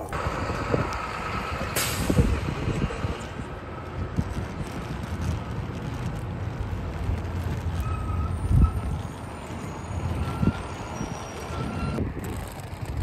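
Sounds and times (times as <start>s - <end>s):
wind on microphone: 0.0s - 6.2s, 7.0s - 9.2s, 10.0s - 13.0s
skate wheels rolling on asphalt: 0.0s - 13.0s.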